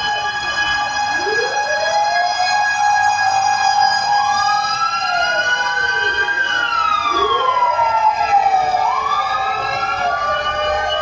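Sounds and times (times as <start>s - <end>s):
fire truck sirens wailing: 0.0s - 11.0s.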